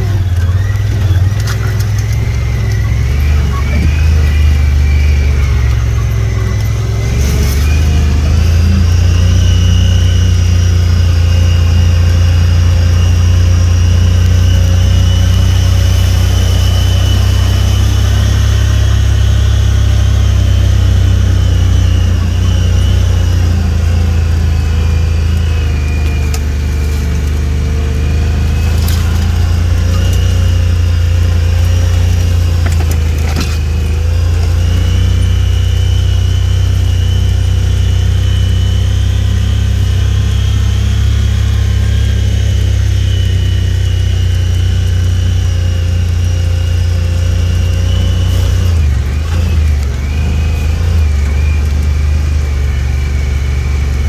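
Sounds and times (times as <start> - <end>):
vehicle engine rumble and whine: 0.0 - 54.0.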